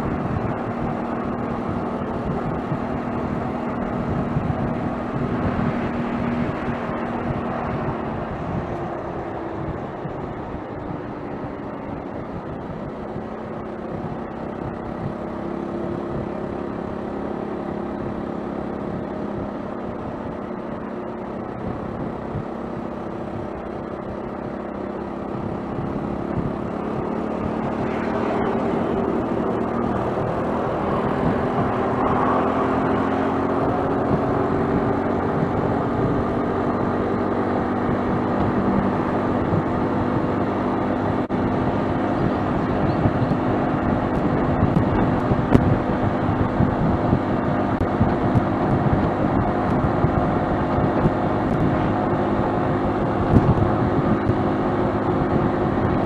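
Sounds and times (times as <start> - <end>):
road and wind noise: 0.0 - 56.0
vehicle engine drone: 0.0 - 56.0.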